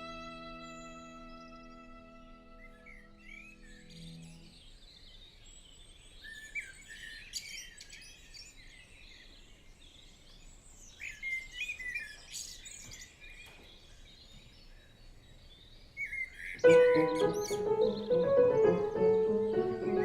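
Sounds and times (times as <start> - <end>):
faint outdoor hiss: 0.0 - 20.0
small birds chirping and trilling: 0.0 - 20.0.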